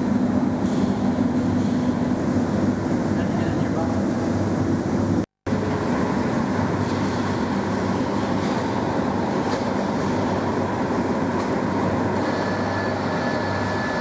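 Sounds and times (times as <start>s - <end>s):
construction machinery humming: 0.0s - 14.0s.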